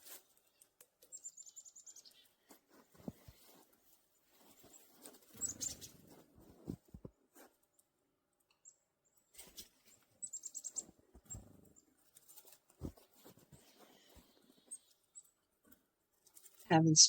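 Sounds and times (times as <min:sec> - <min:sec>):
songbirds chirping: 0:00.1 - 0:15.6.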